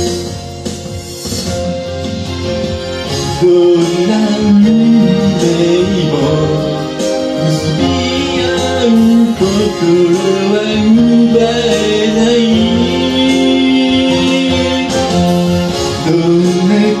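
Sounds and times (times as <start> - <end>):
guitar accompaniment: 0.0 - 17.0
man singing: 3.0 - 17.0.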